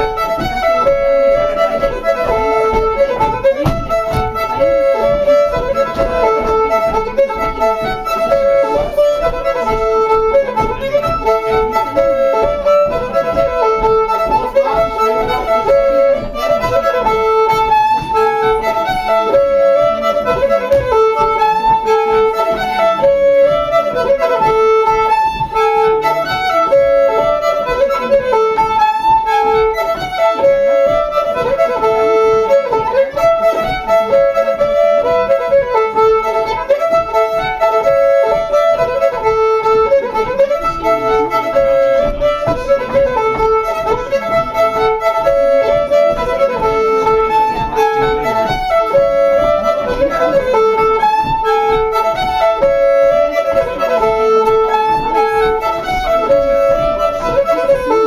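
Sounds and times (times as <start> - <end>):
fiddle-led band playing dance tune: 0.0 - 58.0.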